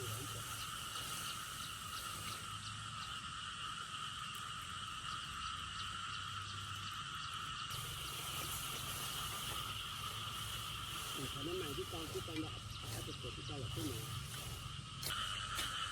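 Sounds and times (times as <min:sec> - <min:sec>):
faint insect ticking calls: 0:00.0 - 0:15.9
insect chorus droning: 0:00.0 - 0:15.9.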